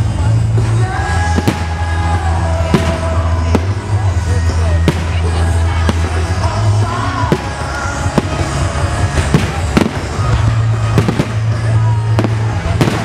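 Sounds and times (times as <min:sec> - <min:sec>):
loud music with deep bass: 0:00.0 - 0:13.0
fireworks bangs: 0:00.5 - 0:13.0.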